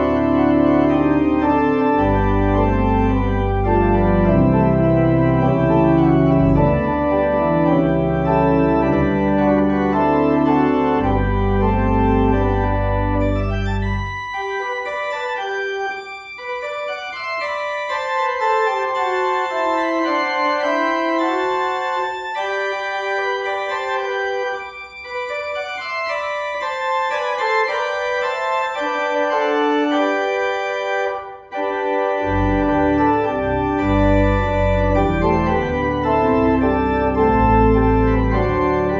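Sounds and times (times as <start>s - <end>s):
church organ playing: 0.0s - 38.9s.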